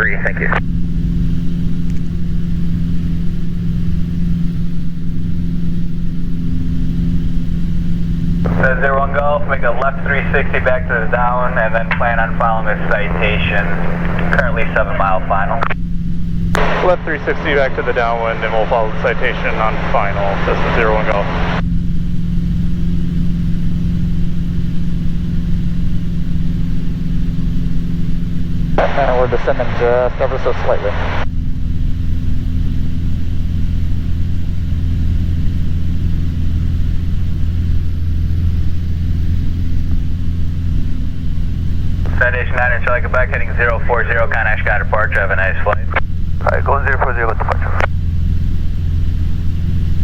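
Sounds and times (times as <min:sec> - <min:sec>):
light aircraft engine droning: 0:00.0 - 0:50.0.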